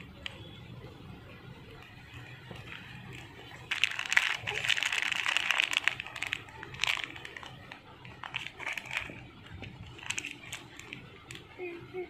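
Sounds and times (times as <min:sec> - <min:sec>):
plastic and paper wrapping crinkling: 0:01.7 - 0:11.6.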